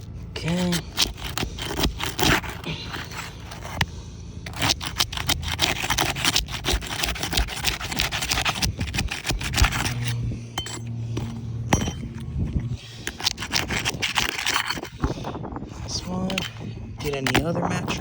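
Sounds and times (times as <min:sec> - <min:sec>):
roof shingle tearing and crackling: 0:00.0 - 0:18.0.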